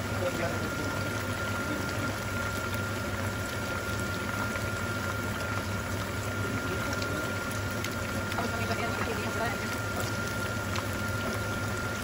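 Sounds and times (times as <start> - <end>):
meat deep-frying in oil: 0.0 - 12.0.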